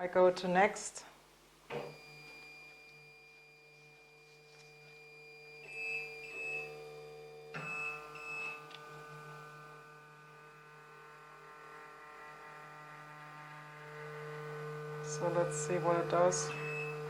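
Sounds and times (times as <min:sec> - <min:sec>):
stepper motors whining: 0:01.8 - 0:17.0.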